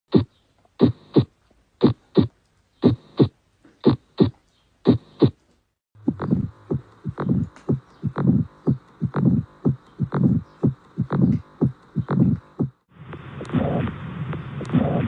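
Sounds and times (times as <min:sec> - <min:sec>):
heartbeat lub-dub thumps: 0:00.1 - 0:05.4, 0:06.0 - 0:15.0
heartbeat with murmur: 0:00.1 - 0:05.4, 0:06.0 - 0:15.0.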